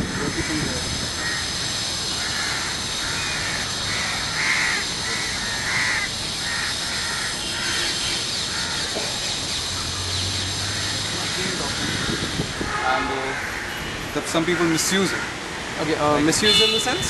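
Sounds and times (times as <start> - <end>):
crows cawing: 0.0 - 15.4
steady background hiss: 0.0 - 17.0.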